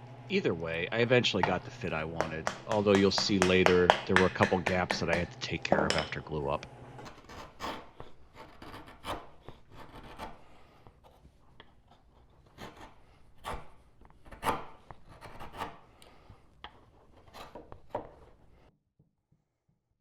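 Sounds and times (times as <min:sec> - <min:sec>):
hand plane shaving wood: 0:01.4 - 0:05.9, 0:07.0 - 0:18.7.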